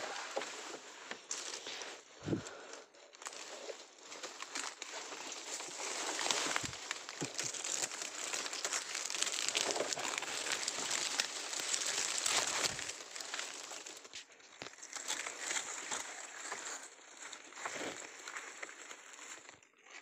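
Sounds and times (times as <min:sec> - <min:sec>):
dry leaves rustling and crackling: 0:00.0 - 0:19.6.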